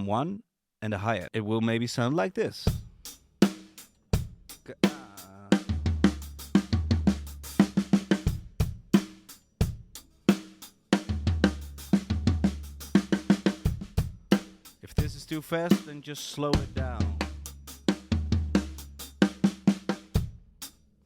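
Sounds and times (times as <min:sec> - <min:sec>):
drum kit playing: 0:02.7 - 0:20.8.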